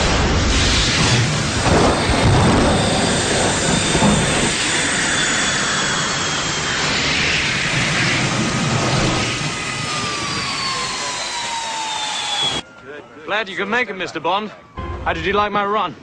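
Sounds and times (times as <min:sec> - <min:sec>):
jet engine rushing with whine: 0:00.0 - 0:16.0.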